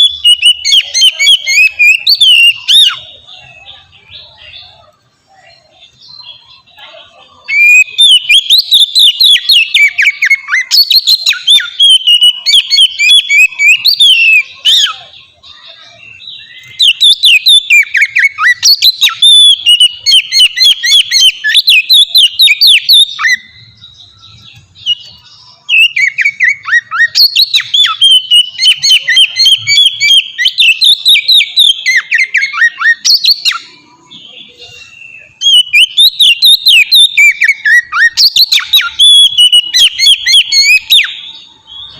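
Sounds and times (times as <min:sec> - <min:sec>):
magpie-robin singing: 0:00.0 - 0:41.9.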